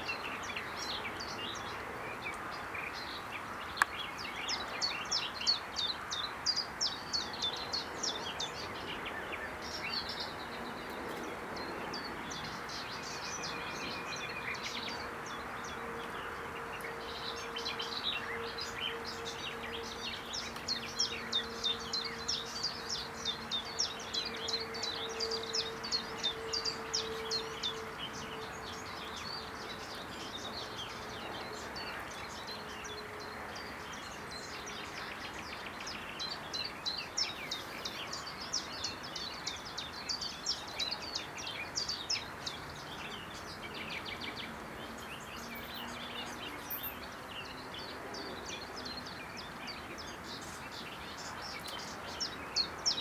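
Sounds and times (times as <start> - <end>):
steady outdoor hiss: 0.0 - 53.0.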